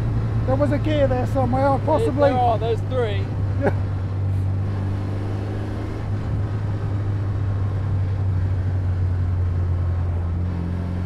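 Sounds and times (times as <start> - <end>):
car engine pulling: 0.0 - 11.0
wind and road noise: 0.0 - 11.0.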